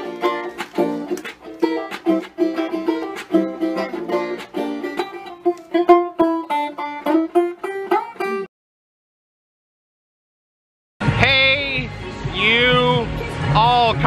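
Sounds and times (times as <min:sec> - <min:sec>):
plucked string intro music: 0:00.0 - 0:08.5, 0:11.0 - 0:14.0.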